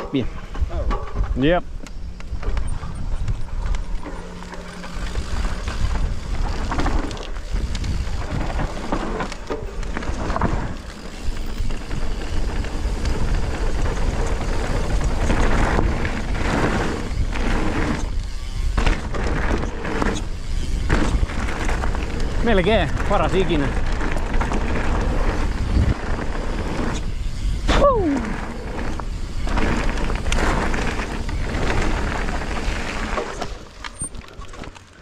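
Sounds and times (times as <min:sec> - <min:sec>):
wind rushing over microphone: 0:00.0 - 0:33.1
bike knocks and rattles: 0:00.0 - 0:35.0
bike tyres rolling over dirt: 0:00.1 - 0:35.0.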